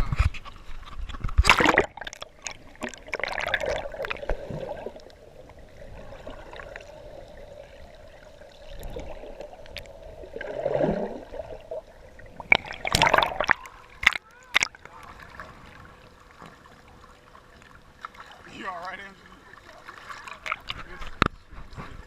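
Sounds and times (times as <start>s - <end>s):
sea water sloshing and gurgling: 0.0s - 22.0s
steady hum: 0.0s - 22.0s
water swirling: 1.3s - 22.0s.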